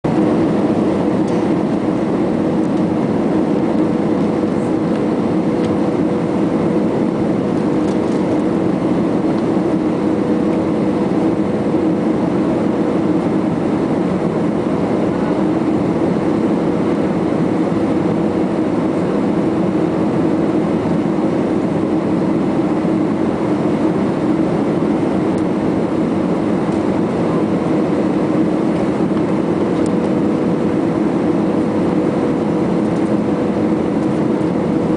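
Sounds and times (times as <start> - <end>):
airplane cabin engine roar: 0.0 - 34.9.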